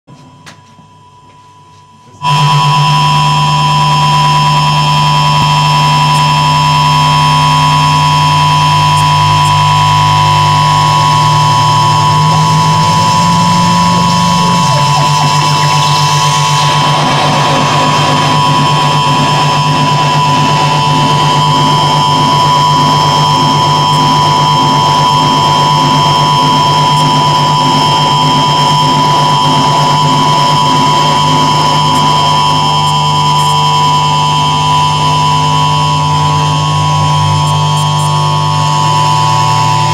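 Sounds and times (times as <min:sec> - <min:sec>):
amplified noise music drone: 0:02.2 - 0:39.9.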